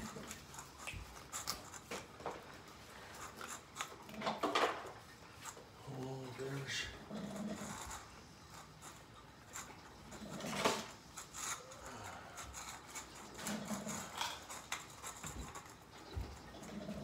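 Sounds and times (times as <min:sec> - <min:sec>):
cats eating from bowls: 0:00.0 - 0:17.0.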